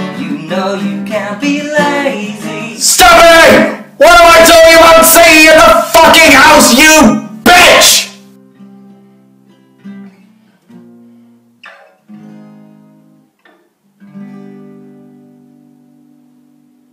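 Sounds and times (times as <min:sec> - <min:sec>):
acoustic guitar strumming chords: 0:00.0 - 0:16.9.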